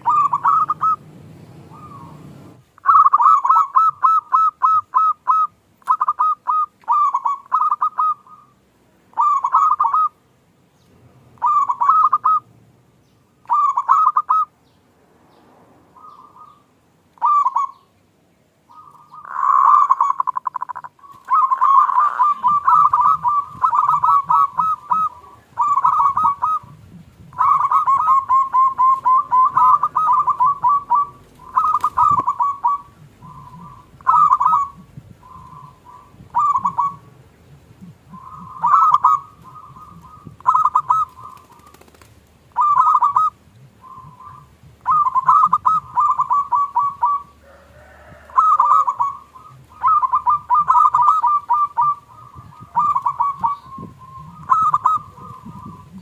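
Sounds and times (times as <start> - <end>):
doves cooing: 0.0 - 10.2, 11.1 - 12.5, 13.4 - 14.5, 16.0 - 17.9, 18.6 - 56.0.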